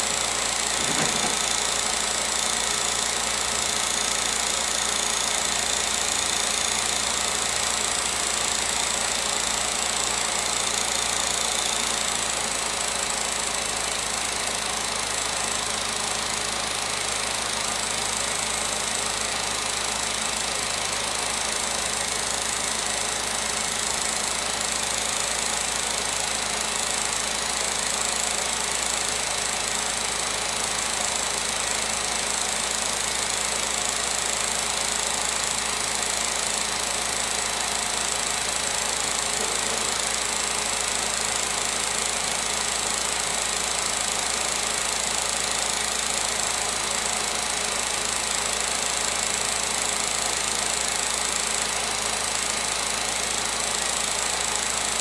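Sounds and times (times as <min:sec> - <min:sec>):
film projector whirring and clattering: 0:00.0 - 0:55.0.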